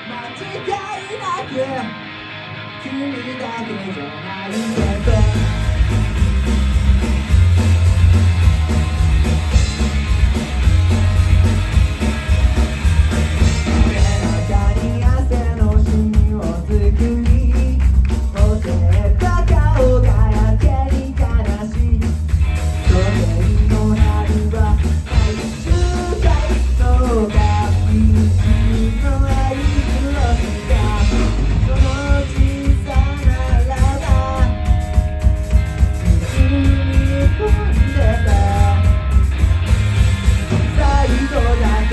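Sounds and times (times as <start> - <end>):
rock band playing: 0.0 - 41.9.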